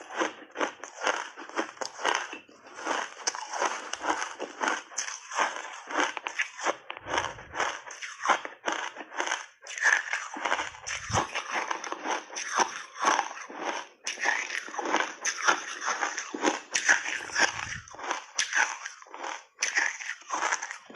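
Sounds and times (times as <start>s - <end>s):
ice being chewed crunching: 0.0s - 20.9s.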